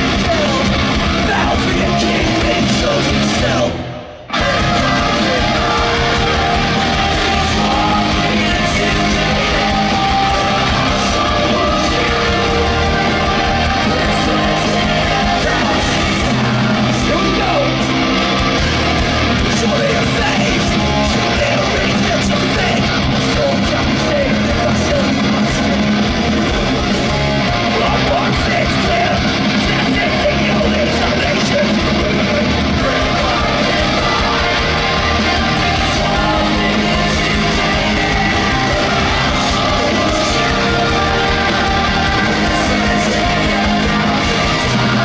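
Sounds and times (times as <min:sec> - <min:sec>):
heavy rock band playing live: 0:00.0 - 0:45.0
person singing and shouting: 0:00.0 - 0:45.0.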